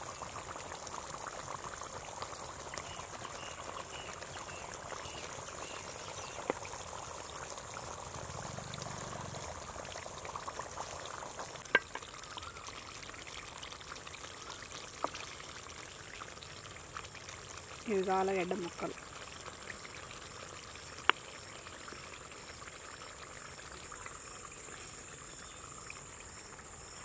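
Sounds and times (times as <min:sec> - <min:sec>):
curry bubbling in pot: 0:00.0 - 0:27.0.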